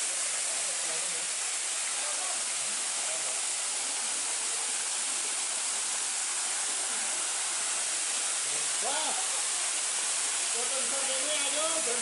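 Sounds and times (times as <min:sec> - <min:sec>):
waterfall pouring and splashing: 0:00.0 - 0:12.0.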